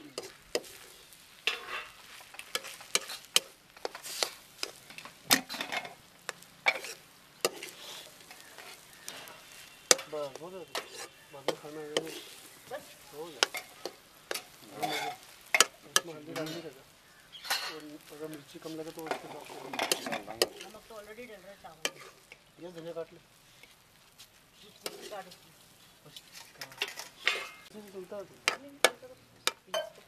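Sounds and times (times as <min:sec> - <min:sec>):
spoon and spatula scraping wok: 0:00.0 - 0:22.6, 0:23.3 - 0:30.0
frying sizzle: 0:00.0 - 0:30.0.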